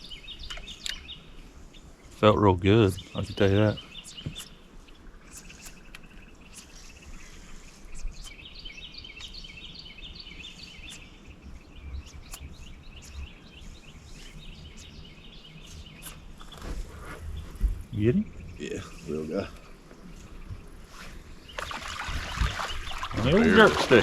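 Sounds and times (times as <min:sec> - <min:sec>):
birds twittering: 0:00.0 - 0:24.0.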